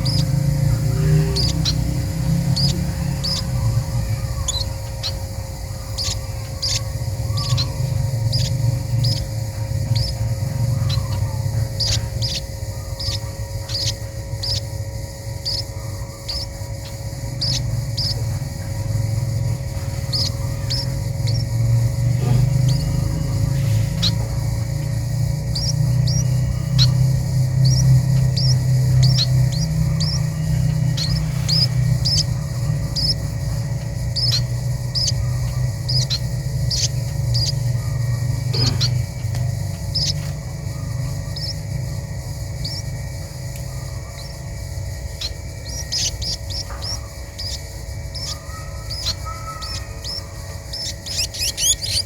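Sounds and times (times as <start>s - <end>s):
small bird chirping: 0.0s - 52.0s
steady low rumble: 0.0s - 52.0s.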